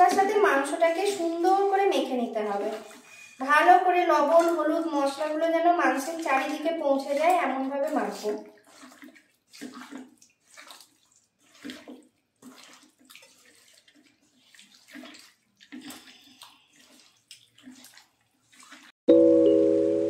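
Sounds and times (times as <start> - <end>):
wet squelching of kneaded meat: 0.0 - 3.6, 4.4 - 19.0.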